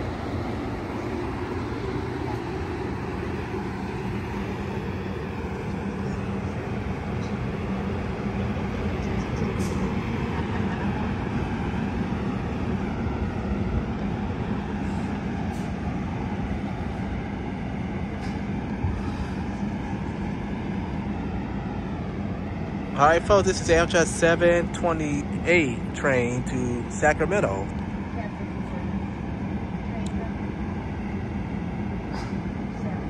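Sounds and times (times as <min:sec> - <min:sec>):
idling train low rumble: 0:00.0 - 0:33.0.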